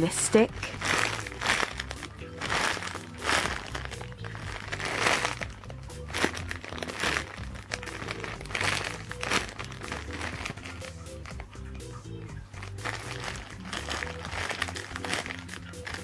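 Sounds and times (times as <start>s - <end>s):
background music: 0.0s - 16.0s
packaging crinkling: 0.5s - 16.0s.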